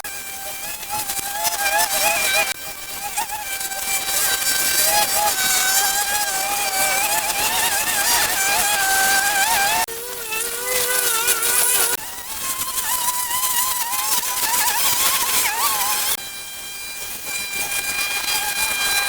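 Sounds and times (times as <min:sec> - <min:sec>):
small petrol engine whining: 0:00.0 - 0:19.0.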